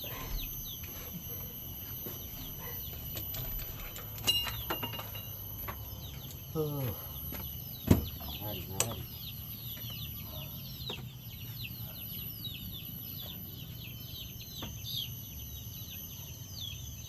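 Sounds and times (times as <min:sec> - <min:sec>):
birds chirping: 0:00.0 - 0:17.0
steady high tone: 0:00.0 - 0:17.0.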